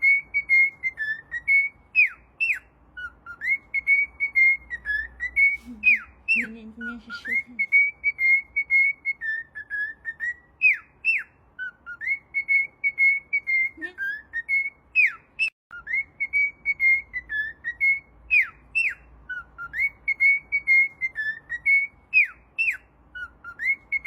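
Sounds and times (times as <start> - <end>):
whistled tune: 0.0 - 6.4, 7.2 - 24.0.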